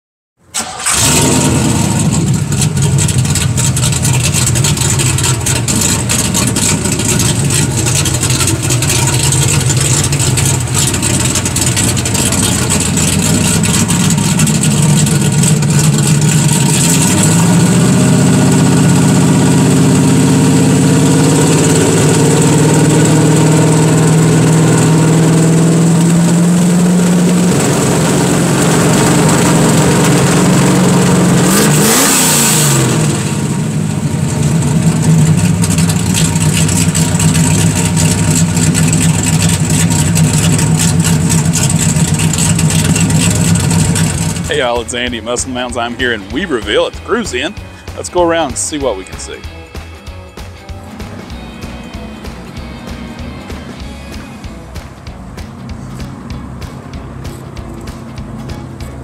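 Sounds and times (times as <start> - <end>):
car engine idling roughly: 0.6 - 50.2, 54.3 - 59.0.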